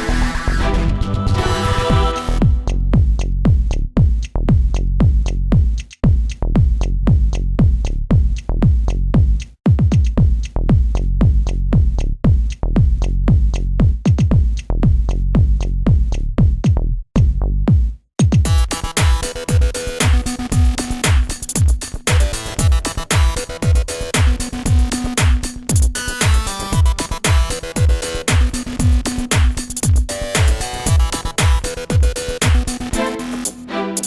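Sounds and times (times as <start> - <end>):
electronic music with kick drums: 0.0 - 34.0.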